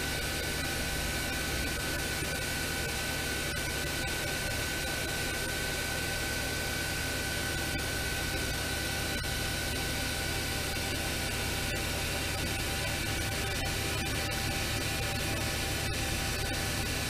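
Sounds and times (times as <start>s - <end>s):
high-pitched machine whine: 0.0s - 17.0s.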